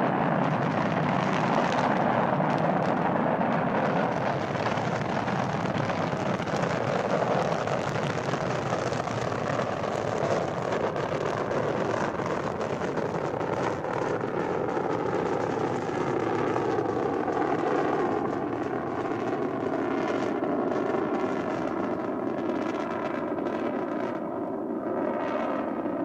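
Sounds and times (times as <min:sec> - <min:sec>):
rocket launch roar: 0:00.0 - 0:26.0.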